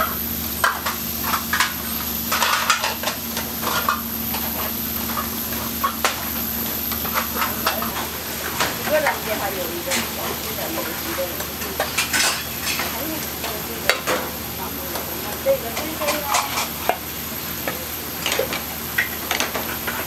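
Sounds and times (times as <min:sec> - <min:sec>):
stew sizzling: 0:00.0 - 0:20.0.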